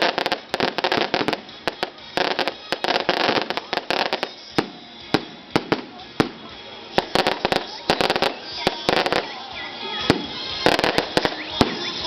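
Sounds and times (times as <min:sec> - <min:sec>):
fireworks crackling volleys: 0:00.0 - 0:12.0.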